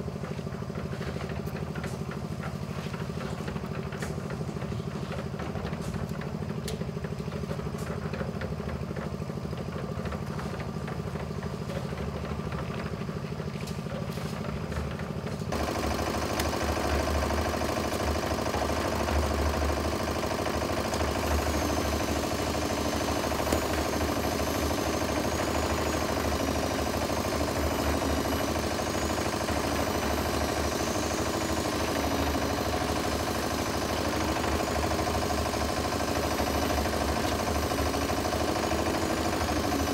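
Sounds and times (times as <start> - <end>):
cement mixer diesel engine: 0.0 - 39.9.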